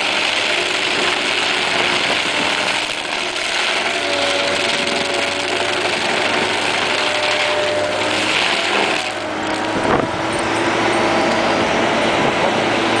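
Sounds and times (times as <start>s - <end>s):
powerpack engine running: 0.0s - 13.0s
stump grinder grinding: 0.0s - 13.0s.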